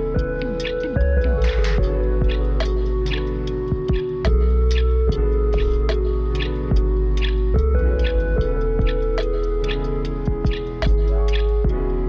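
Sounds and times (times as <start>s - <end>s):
ambient electronic music: 0.0s - 12.0s.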